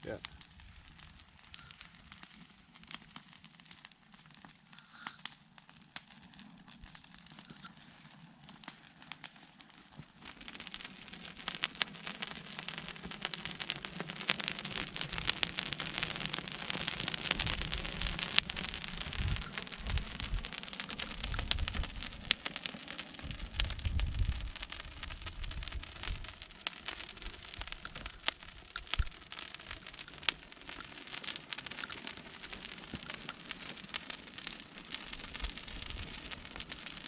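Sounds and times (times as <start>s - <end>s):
fire crackling: 0.0s - 37.0s.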